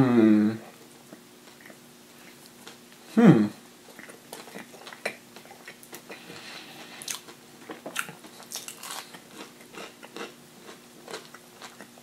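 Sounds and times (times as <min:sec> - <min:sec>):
close chewing with crunches: 0:00.7 - 0:03.1, 0:03.8 - 0:12.0.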